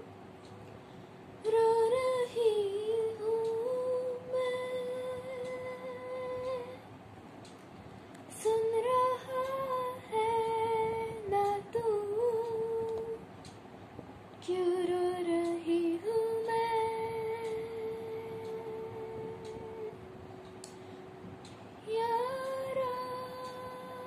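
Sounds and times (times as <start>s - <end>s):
girl singing wordless melody: 0.8s - 7.1s, 8.2s - 24.0s.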